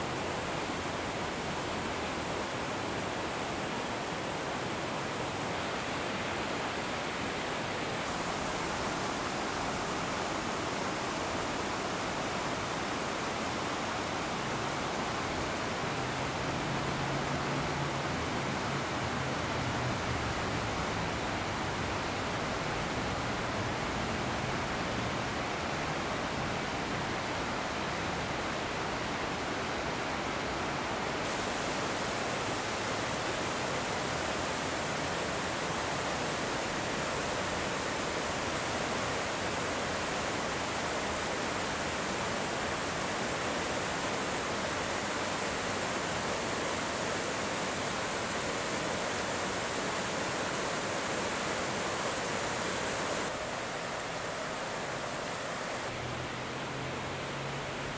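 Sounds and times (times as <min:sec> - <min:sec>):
river rushing over rocks: 0:00.0 - 0:57.9.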